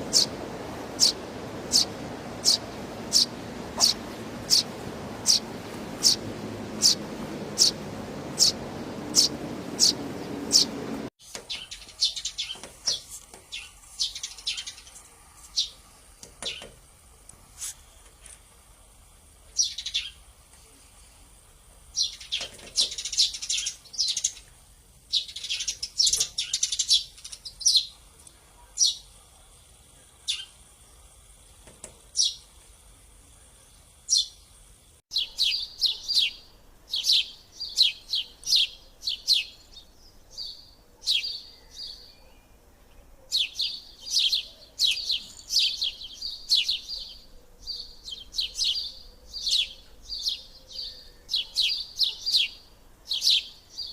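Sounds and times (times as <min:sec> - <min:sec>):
sparrows chirping: 0:00.0 - 0:16.8, 0:19.5 - 0:20.3, 0:21.9 - 0:31.2, 0:31.9 - 0:32.5, 0:33.4 - 0:34.5, 0:35.1 - 0:53.9.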